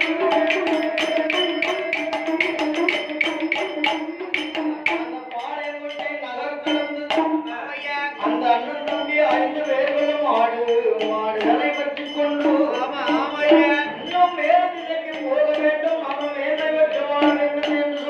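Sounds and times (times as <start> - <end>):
man chanting melodically: 0.0 - 18.0
sharp percussion strikes: 0.0 - 18.0.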